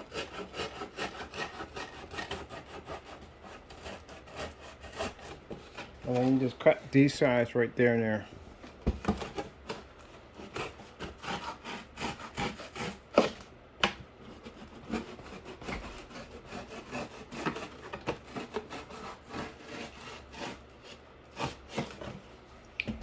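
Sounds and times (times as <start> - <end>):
knife sawing through cardboard: 0.0 - 7.5, 9.1 - 13.5, 14.2 - 22.3.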